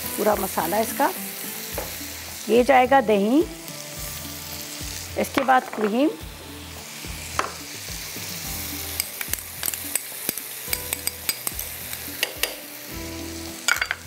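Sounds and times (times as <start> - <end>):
sauce sizzling in oil with pops: 0.0 - 2.7, 3.5 - 14.0.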